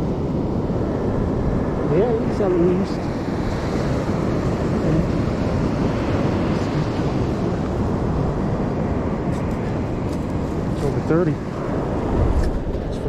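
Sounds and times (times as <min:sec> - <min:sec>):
surf washing on beach: 0:00.0 - 0:13.0
wind noise on microphone: 0:00.0 - 0:13.0.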